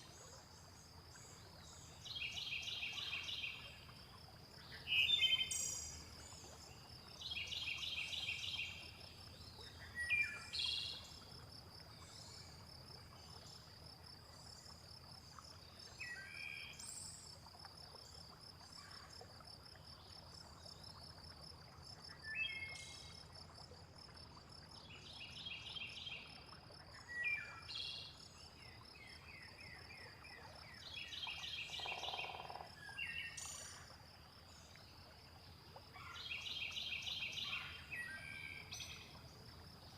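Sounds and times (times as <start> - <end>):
faint rushing water: 0.0 - 39.9.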